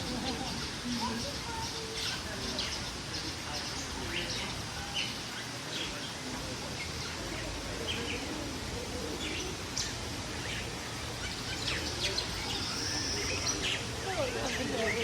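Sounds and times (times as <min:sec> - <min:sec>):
caged birds chirping: 0:00.0 - 0:15.0
steady background hiss: 0:00.0 - 0:15.0.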